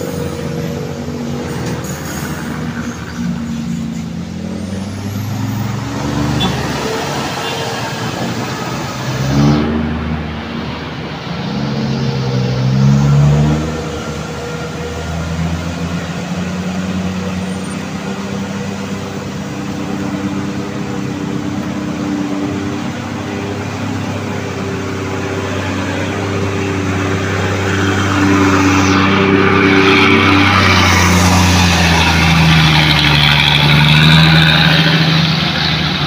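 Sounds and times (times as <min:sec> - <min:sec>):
traffic noise: 0:00.0 - 0:36.0
truck diesel engines climbing: 0:00.0 - 0:36.0.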